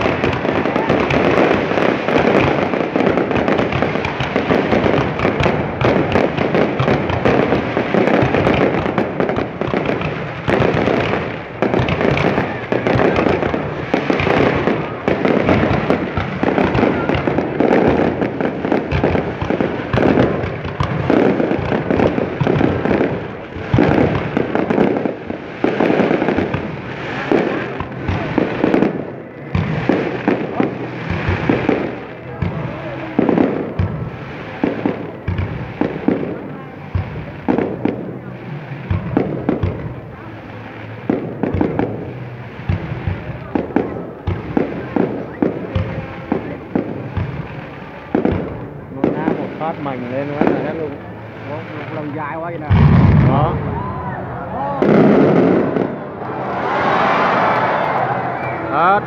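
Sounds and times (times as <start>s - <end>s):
firework bangs and crackling: 0.0s - 59.0s.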